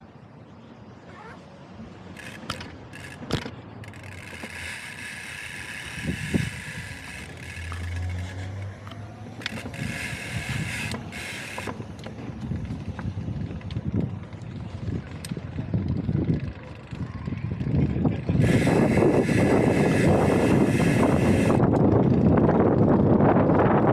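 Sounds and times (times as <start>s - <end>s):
bike freewheel hub buzzing: 2.1s - 23.8s.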